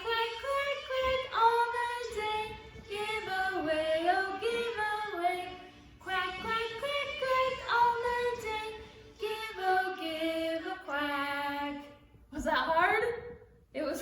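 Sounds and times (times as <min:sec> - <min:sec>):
woman singing unaccompanied: 0:00.0 - 0:11.9.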